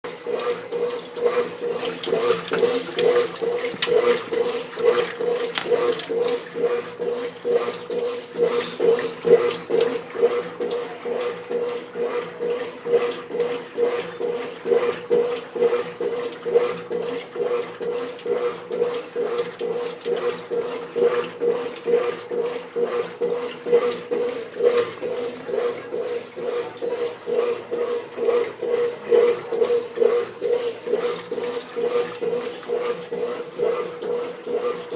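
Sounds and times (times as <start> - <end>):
washing machine motor hum: 0.0 - 34.9
water and clothes sloshing: 0.1 - 34.9.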